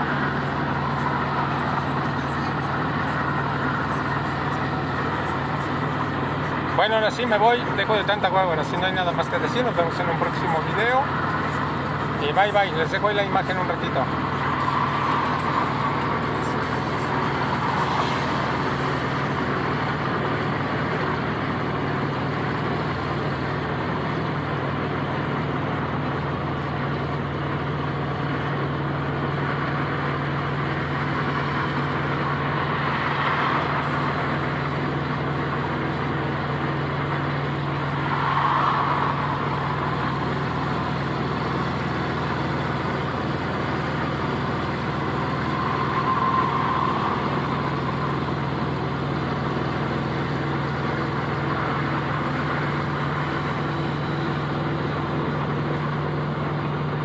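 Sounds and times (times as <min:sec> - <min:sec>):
car engine cruising: 0:00.0 - 0:57.0.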